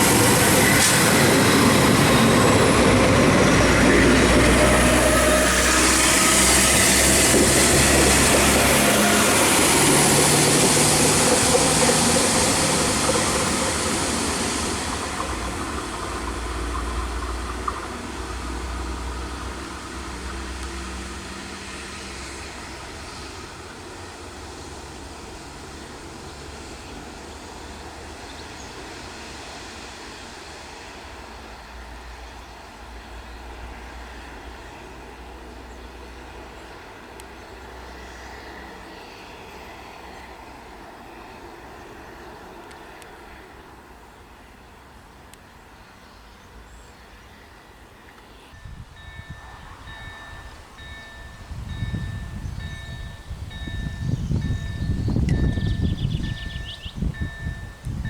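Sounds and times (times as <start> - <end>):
diesel train passing: 0.0 - 58.0
rail noise: 0.0 - 58.0.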